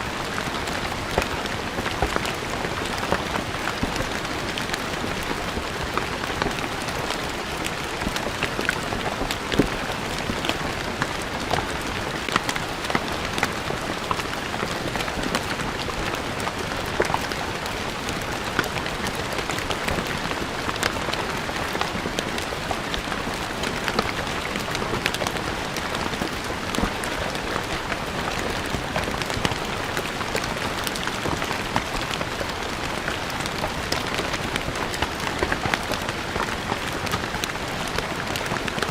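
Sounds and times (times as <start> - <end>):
rain on stone paving: 0.0 - 38.9.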